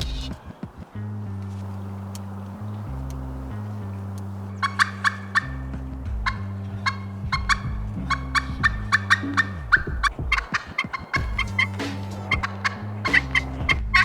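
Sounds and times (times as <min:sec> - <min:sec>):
background music with low notes: 0:00.0 - 0:14.0
turkeys gobbling: 0:00.0 - 0:14.0.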